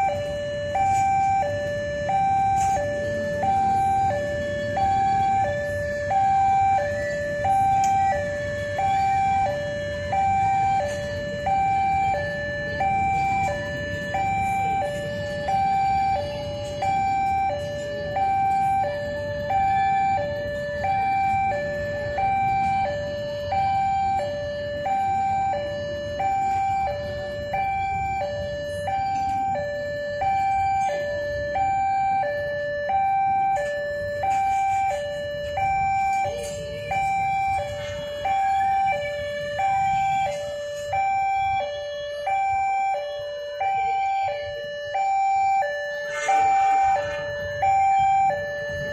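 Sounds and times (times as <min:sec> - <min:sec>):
idling traffic rumble: 0:00.0 - 0:48.9
two-tone crossing alarm: 0:00.0 - 0:48.9.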